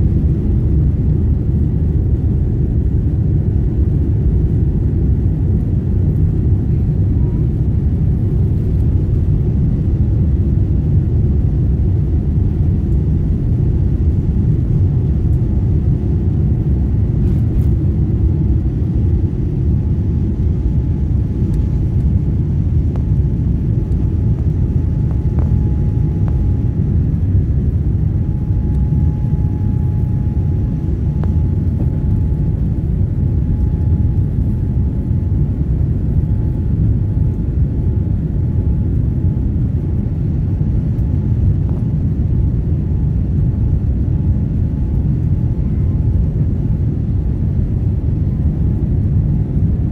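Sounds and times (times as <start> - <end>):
faint steady whine: 0.0 - 49.9
jet engines rumbling: 0.0 - 49.9.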